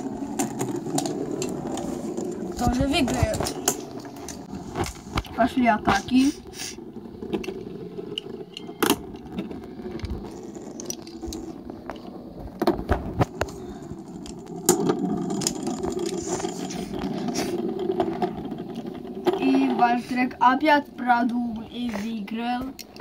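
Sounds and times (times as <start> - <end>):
spinning tops scraping on wood: 0.0 - 23.0.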